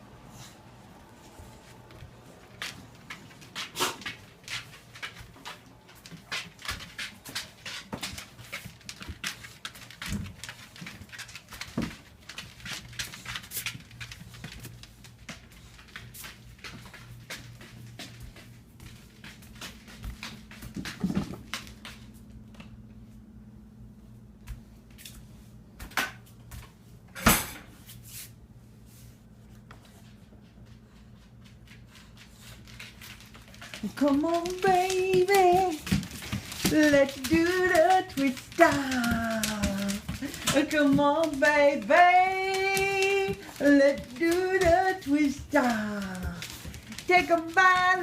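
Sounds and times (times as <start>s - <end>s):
low steady hum: 0.0s - 48.0s
dogs snuffling: 0.3s - 22.3s, 28.9s - 48.0s
paws clicking and scuffing: 0.3s - 23.2s, 28.9s - 48.0s.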